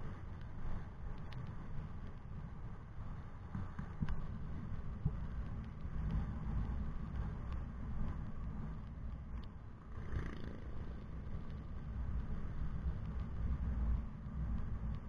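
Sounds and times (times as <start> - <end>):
vehicle road and wind rumble: 0.0 - 15.0.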